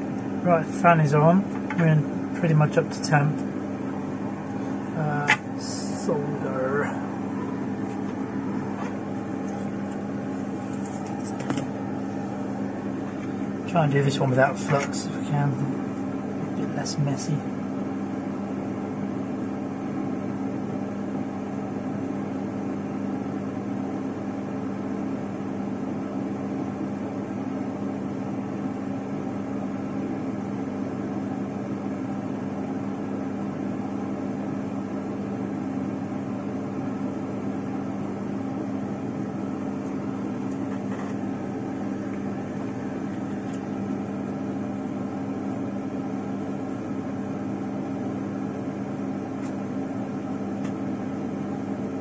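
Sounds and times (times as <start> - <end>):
fume extractor fan humming: 0.0 - 52.0.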